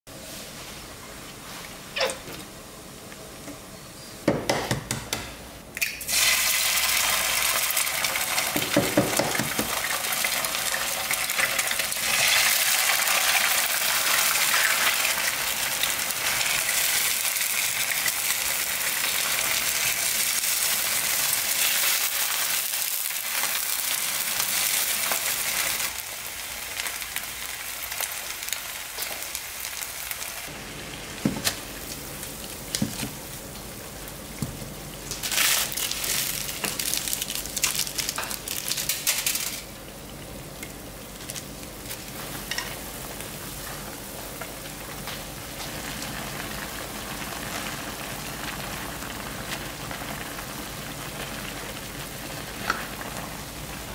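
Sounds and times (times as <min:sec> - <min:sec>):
eggs frying with loud sizzle: 0:05.8 - 0:53.9.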